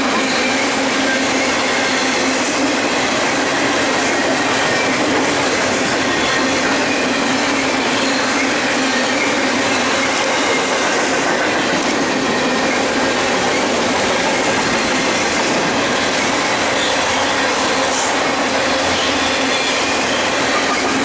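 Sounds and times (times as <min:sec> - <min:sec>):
train wheels on rail: 0:00.0 - 0:21.0.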